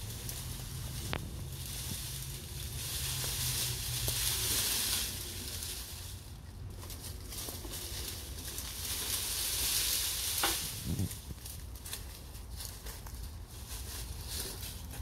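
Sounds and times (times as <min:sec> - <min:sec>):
dry leafy branches rustling: 0:00.0 - 0:15.0.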